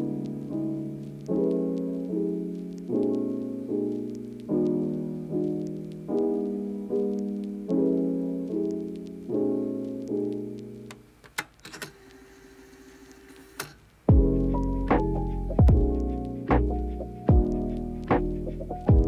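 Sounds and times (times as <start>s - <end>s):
piano chords: 0.0s - 11.0s, 14.1s - 19.0s.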